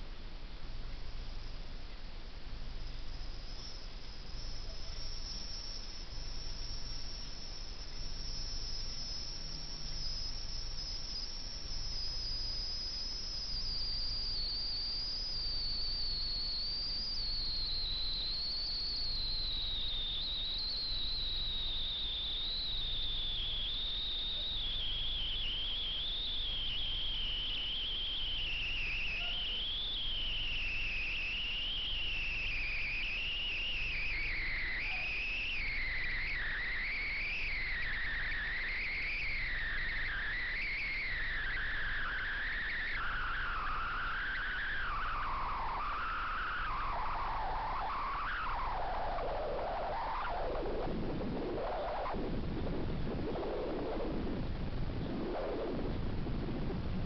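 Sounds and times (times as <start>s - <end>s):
steady low hum: 0.0s - 57.0s
wavering high whine: 0.0s - 57.0s.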